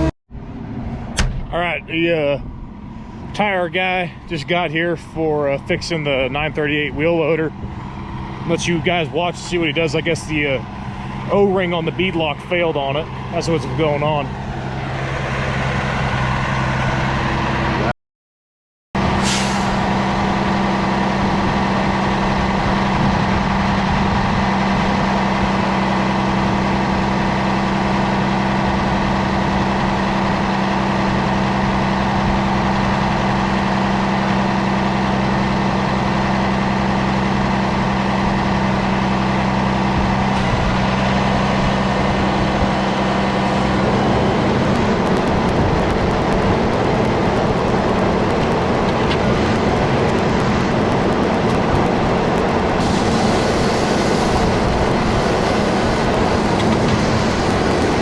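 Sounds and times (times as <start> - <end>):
heavy vehicle engine idling: 0.0 - 17.9, 19.0 - 58.0.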